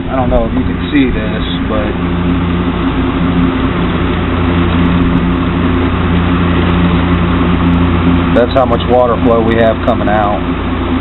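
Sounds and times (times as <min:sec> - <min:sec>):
electric fan motor hum: 0:00.0 - 0:11.0.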